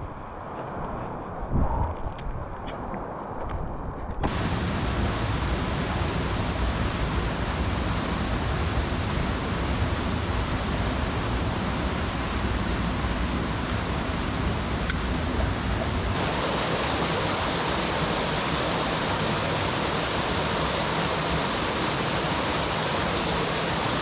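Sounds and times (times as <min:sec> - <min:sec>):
rushing river water: 0:04.3 - 0:24.0.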